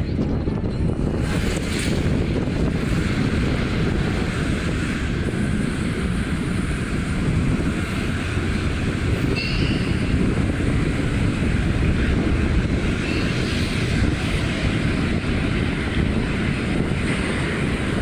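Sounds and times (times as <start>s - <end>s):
wind rush: 0.0s - 18.0s.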